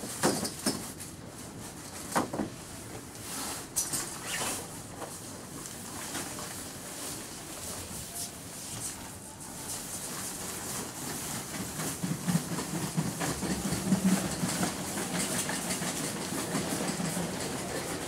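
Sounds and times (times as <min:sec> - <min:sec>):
shopping trolley rolling and rattling: 0:03.3 - 0:18.0.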